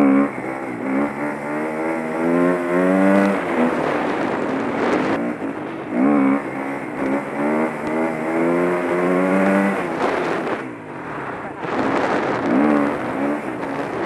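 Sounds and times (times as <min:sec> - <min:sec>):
dirt bike engine revving: 0:00.0 - 0:10.6, 0:12.2 - 0:14.0
wind noise: 0:01.8 - 0:14.0.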